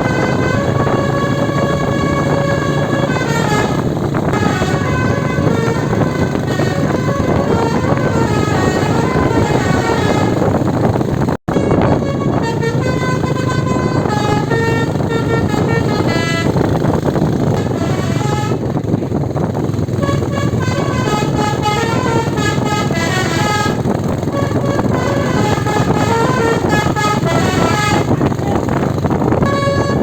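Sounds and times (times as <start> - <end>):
bus air horn tune: 0.0 - 30.0
bus engine running: 0.0 - 30.0.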